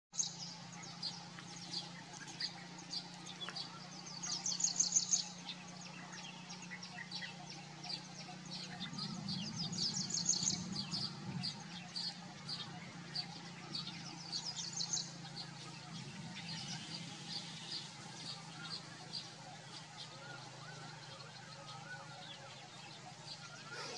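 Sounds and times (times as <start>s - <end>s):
birds chirping: 0.1s - 23.9s
steady low hum: 0.2s - 23.9s.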